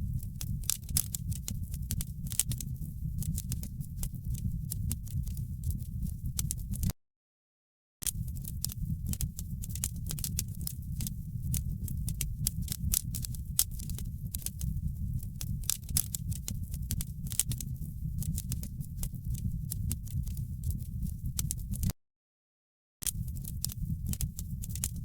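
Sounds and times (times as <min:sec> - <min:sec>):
wood fire crackling: 0:00.0 - 0:06.9, 0:08.1 - 0:21.9, 0:23.1 - 0:25.0.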